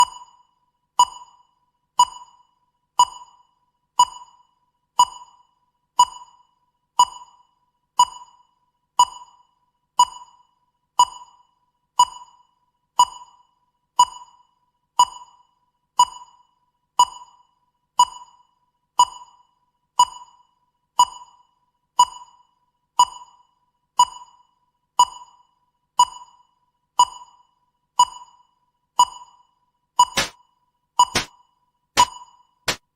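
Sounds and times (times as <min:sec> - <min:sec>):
timer beeping: 0:00.0 - 0:32.9.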